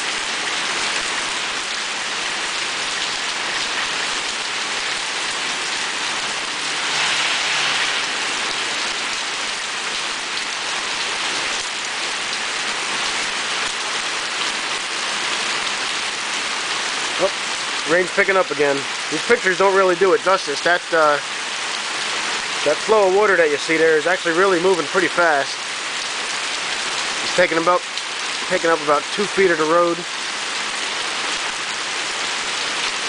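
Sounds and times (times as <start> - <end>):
heavy rain on pavement: 0.0 - 33.0.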